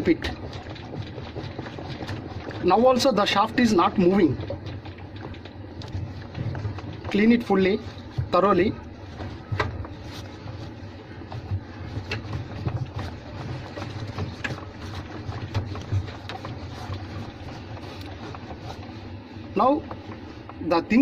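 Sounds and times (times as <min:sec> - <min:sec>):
cloth wiping plastic: 0:00.0 - 0:21.0.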